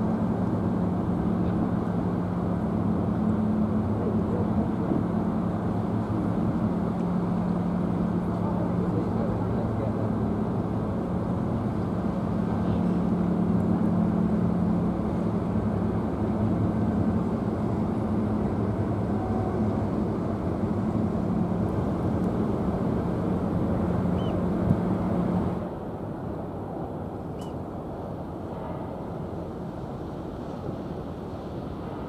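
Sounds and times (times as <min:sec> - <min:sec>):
ferry engines droning: 0:00.0 - 0:32.0
water: 0:00.0 - 0:32.0
wind: 0:00.0 - 0:32.0.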